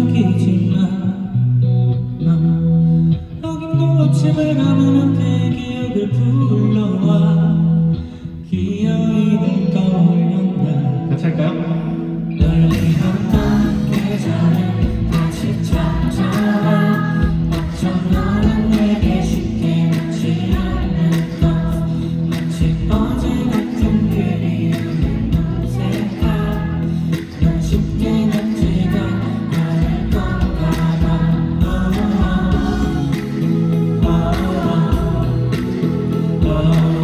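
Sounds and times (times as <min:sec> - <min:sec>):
man singing: 0:00.0 - 0:01.6, 0:02.2 - 0:37.0
backing music with bass: 0:00.0 - 0:37.0.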